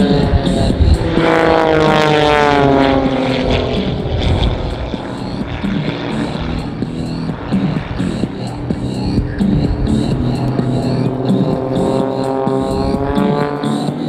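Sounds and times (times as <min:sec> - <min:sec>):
music over loudspeakers: 0:00.0 - 0:14.0
propeller planes passing overhead: 0:00.0 - 0:14.0.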